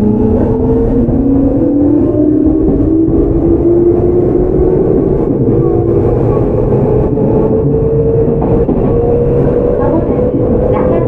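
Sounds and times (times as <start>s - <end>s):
wheels rumbling on rail: 0.0s - 11.0s.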